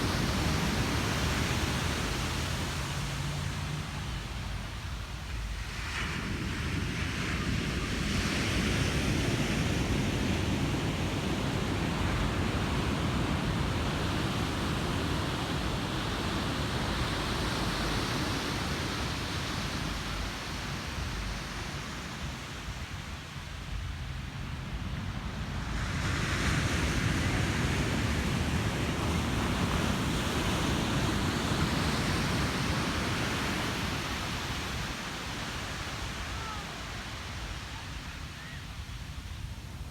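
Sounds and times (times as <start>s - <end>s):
surf wash rushing: 0.0s - 39.9s.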